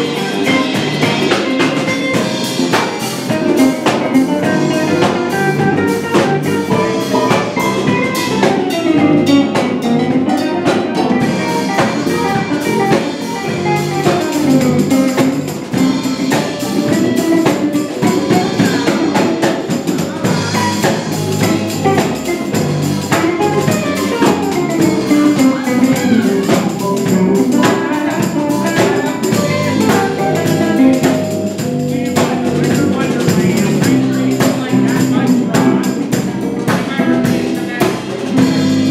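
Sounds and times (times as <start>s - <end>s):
bass guitar: 0.0s - 38.9s
drum kit: 0.0s - 38.9s
electric guitar: 0.0s - 38.9s
keyboard: 0.0s - 38.9s.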